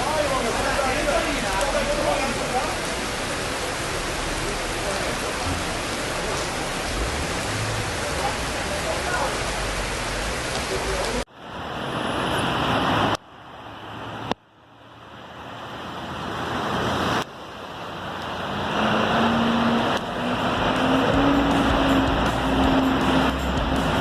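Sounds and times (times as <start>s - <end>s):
heavy rain hissing: 0.0s - 14.3s, 15.3s - 24.0s
rushing floodwater: 0.0s - 24.0s.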